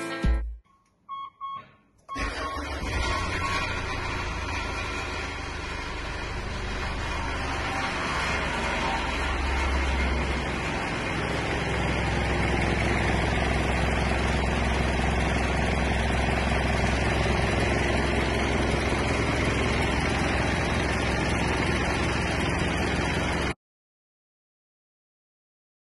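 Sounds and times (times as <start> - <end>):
diesel engine idling: 2.1 - 23.6.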